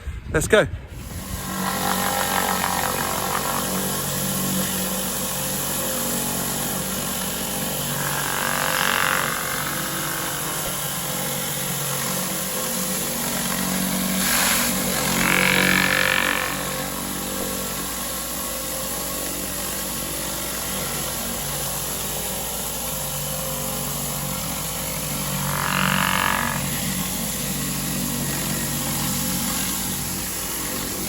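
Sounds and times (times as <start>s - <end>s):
high-pressure water jet hissing: 0.9s - 31.0s
pressure washer engine running: 0.9s - 31.0s.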